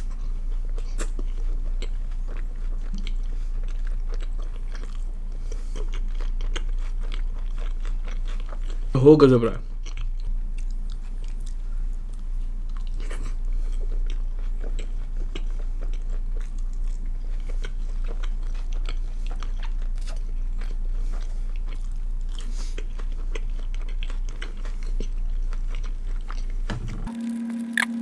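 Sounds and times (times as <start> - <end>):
person chewing crisp food: 0.0 - 9.0, 9.6 - 26.7
low steady hum: 0.0 - 28.0.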